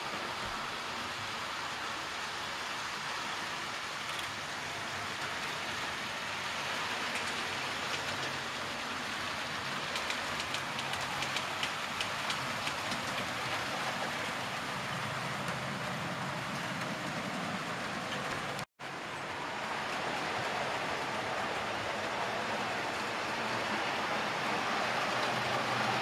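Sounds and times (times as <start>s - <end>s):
model trains whirring: 0.0s - 26.0s.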